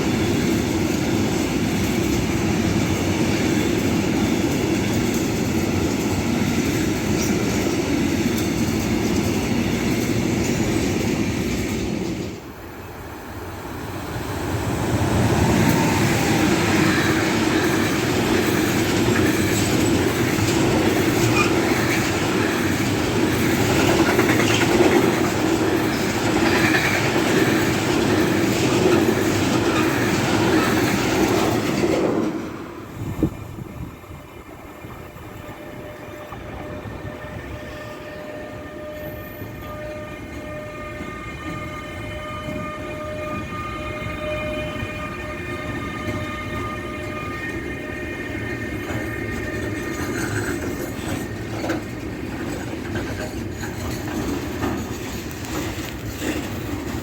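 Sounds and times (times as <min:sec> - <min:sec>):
train clattering over rails: 0:00.0 - 0:12.6, 0:14.1 - 0:57.0.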